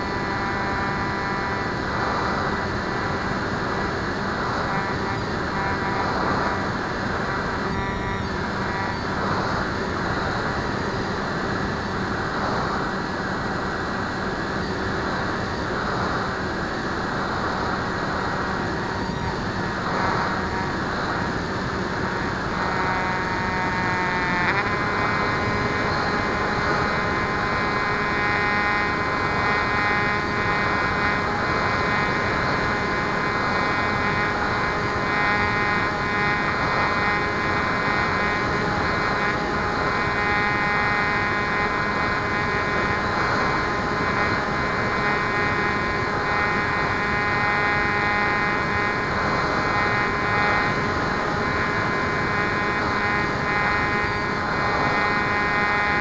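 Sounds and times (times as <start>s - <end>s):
electric motor and propeller whine: 0.0s - 56.0s
rushing wind: 0.0s - 56.0s.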